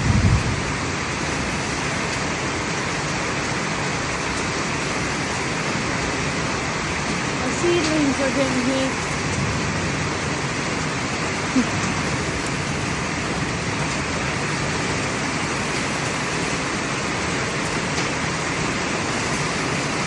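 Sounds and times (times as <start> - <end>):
heavy rain and hail: 0.0 - 20.0.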